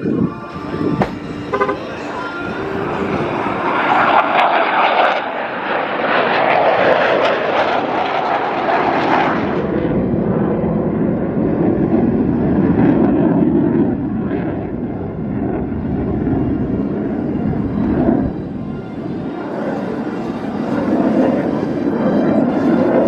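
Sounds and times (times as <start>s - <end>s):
deep jet rumble: 0.0s - 22.0s.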